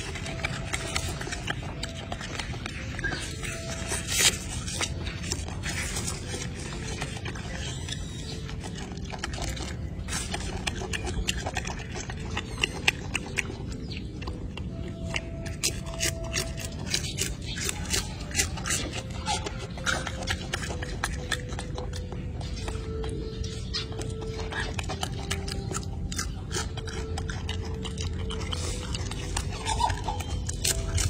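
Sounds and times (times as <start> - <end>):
monkey chewing leaves: 0.0 - 31.0.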